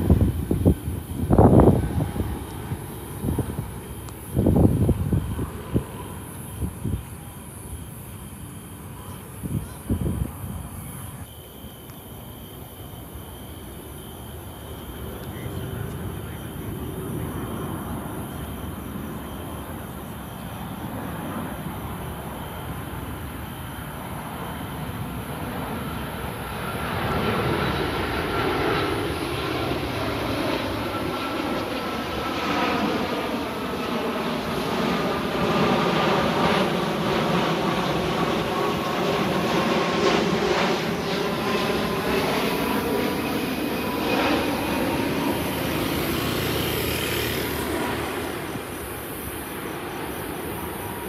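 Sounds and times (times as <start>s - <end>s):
jet airliner passing overhead: 0.0s - 51.0s.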